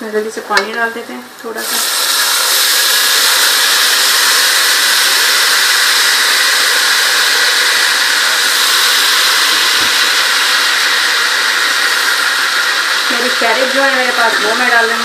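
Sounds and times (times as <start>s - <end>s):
water sizzling in hot oil: 1.4s - 15.0s.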